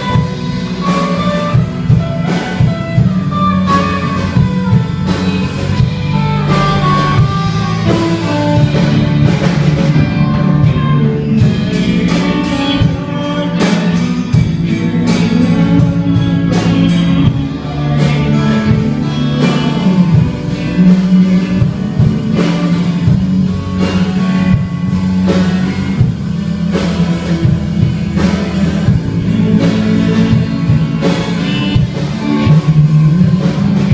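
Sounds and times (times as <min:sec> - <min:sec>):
guitar-led band instrumental: 0:00.0 - 0:33.9.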